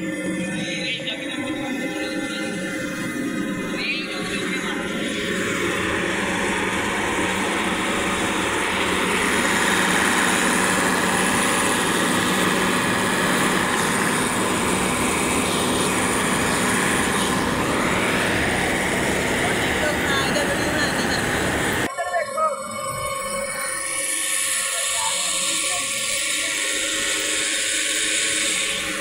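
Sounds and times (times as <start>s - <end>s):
combine harvester drone: 0.0s - 29.0s.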